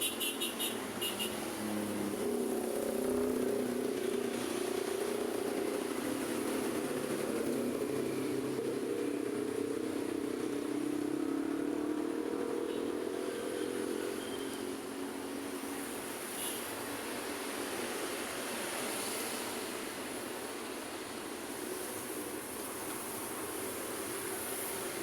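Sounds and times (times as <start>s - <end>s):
passing traffic: 0.0s - 25.0s.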